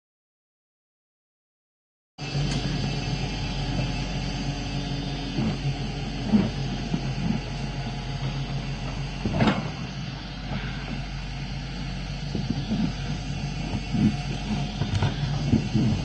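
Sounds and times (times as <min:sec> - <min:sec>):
excavator diesel engine running: 0:02.2 - 0:16.0.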